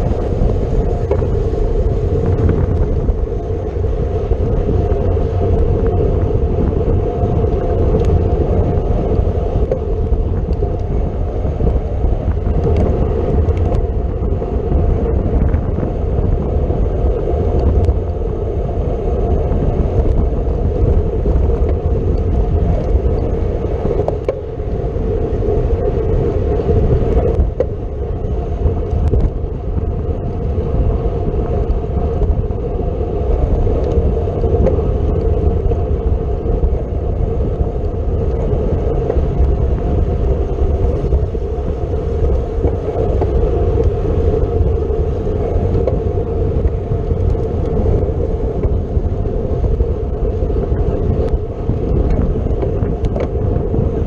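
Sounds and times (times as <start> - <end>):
road rumble: 0.0 - 54.0
wind rush on microphone: 0.0 - 54.0.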